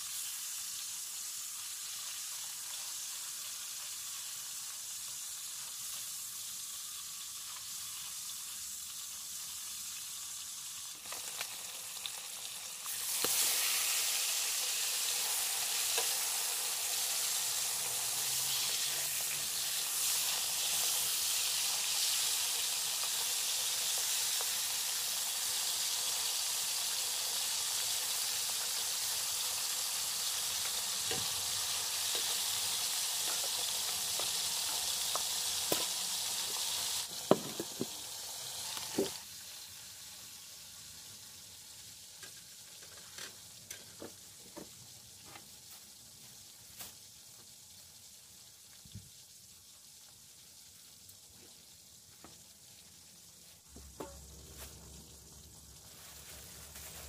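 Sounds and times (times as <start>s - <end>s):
fish sizzling in hot oil: 0.0s - 57.0s.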